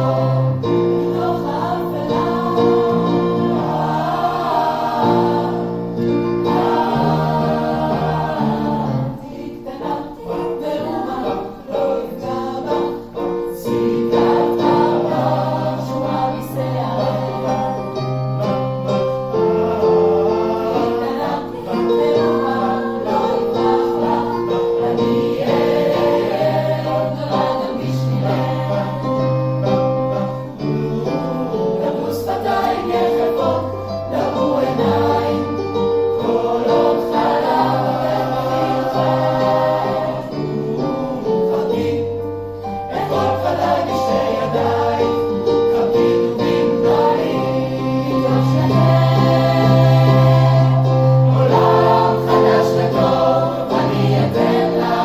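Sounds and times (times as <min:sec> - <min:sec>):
choir singing in parts: 0:00.0 - 0:55.0.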